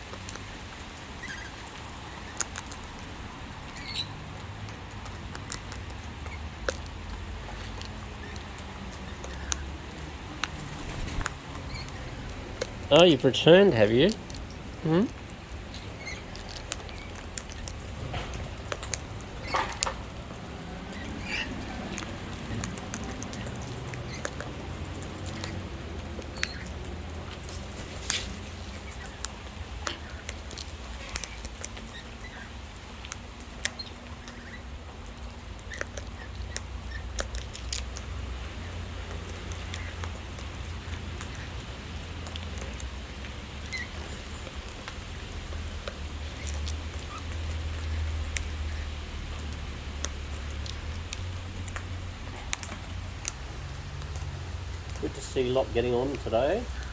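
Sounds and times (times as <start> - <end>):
beaks pecking and cracking seed: 0.0 - 56.9.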